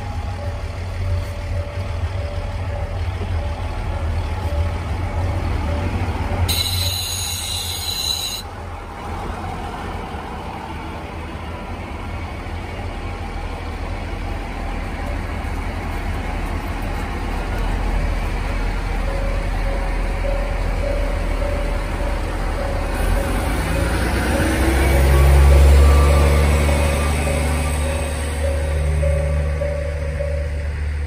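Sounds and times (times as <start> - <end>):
diesel railcar engines idling: 0.0 - 31.0.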